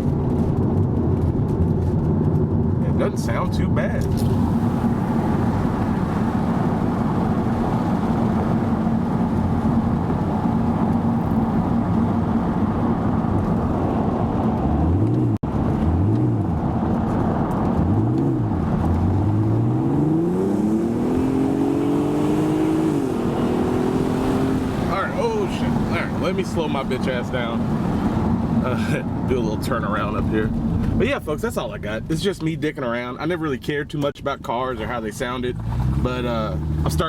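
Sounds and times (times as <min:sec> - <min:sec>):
car engine droning and revving: 0:00.0 - 0:32.1, 0:34.7 - 0:37.0.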